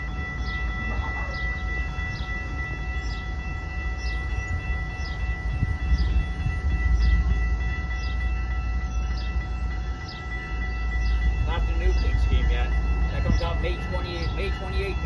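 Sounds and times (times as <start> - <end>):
freight train rumbling past: 0.0 - 15.0
high ringing tones: 0.0 - 15.0.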